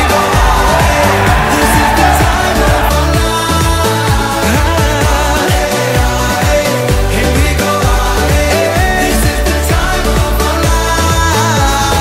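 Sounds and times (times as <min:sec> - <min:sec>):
person singing: 0:00.0 - 0:12.0
upbeat dance-pop song: 0:00.0 - 0:12.0.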